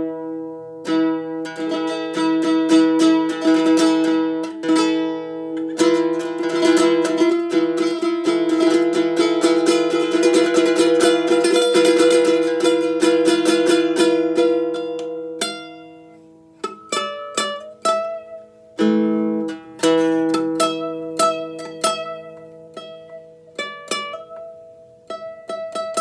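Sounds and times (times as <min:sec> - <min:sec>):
plucked string instrument: 0:00.0 - 0:26.0.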